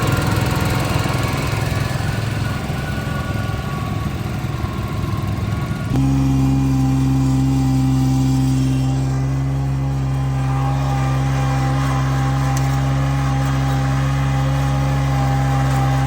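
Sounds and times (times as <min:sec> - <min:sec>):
diesel engine running steadily: 0:00.0 - 0:16.0.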